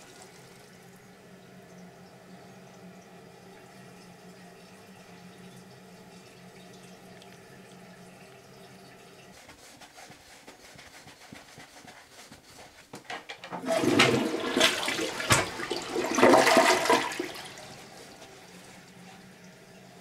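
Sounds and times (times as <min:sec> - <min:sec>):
toilet flushing: 0:00.0 - 0:20.0.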